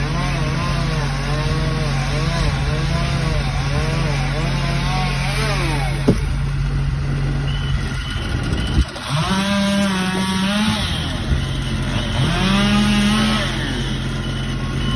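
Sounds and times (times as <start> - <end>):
small engine revving: 0.0 - 14.9.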